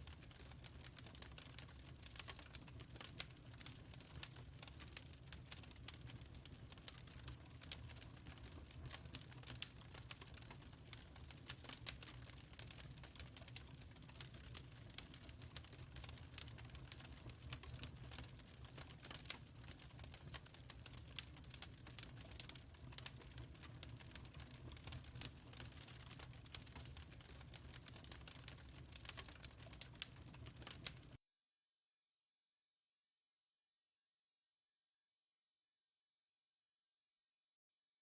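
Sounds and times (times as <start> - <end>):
wood fire crackling: 0.0 - 31.2.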